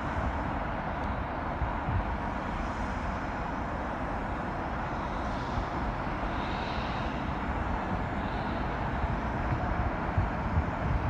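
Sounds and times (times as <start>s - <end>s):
freight train cars rumbling: 0.0s - 11.0s.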